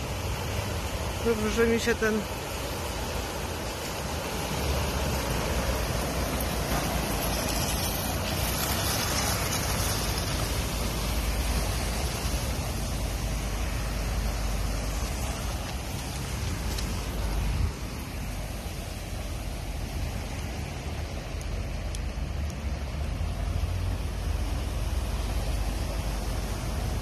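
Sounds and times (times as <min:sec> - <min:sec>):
rain: 0:00.0 - 0:27.0
wind: 0:00.0 - 0:27.0.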